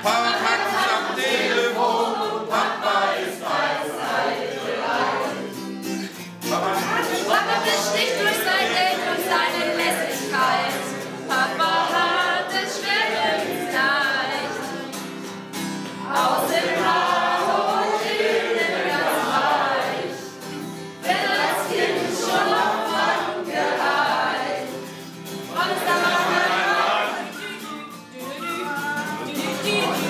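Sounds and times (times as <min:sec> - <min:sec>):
acoustic guitar: 0:00.0 - 0:30.0
group singing: 0:00.0 - 0:30.0.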